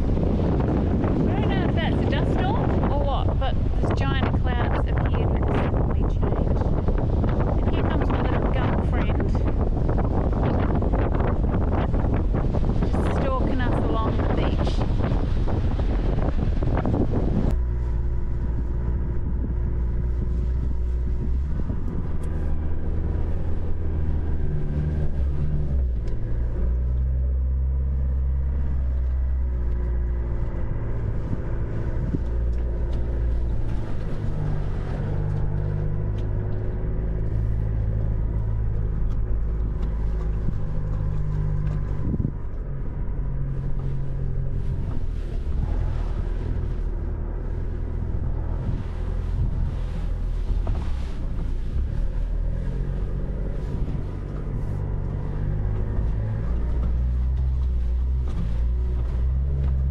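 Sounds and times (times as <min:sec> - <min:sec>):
engine running under load: 0:00.0 - 0:59.9
wind on microphone: 0:00.0 - 0:59.9.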